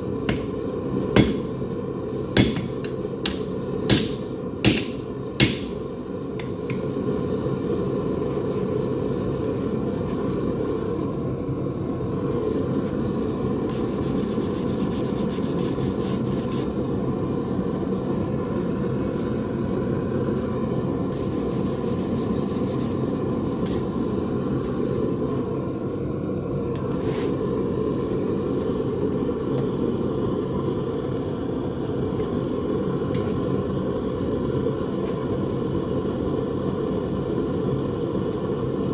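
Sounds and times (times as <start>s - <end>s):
gas forge burner roaring: 0.0s - 38.9s.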